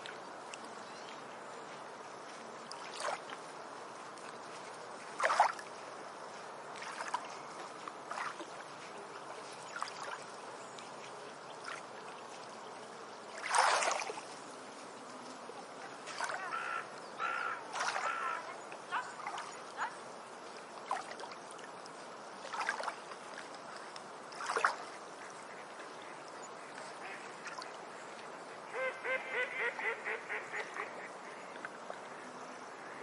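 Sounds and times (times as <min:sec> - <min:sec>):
small waves splashing on shore: 0:00.0 - 0:28.8.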